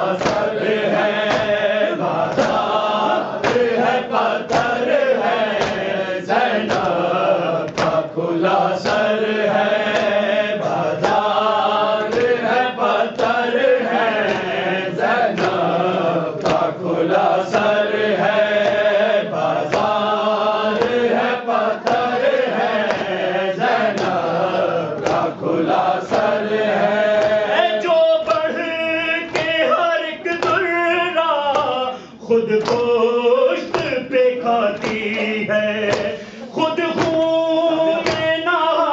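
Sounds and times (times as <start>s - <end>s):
sharp rhythmic strikes: 0.0s - 38.9s
voices chanting a lament: 0.0s - 38.9s.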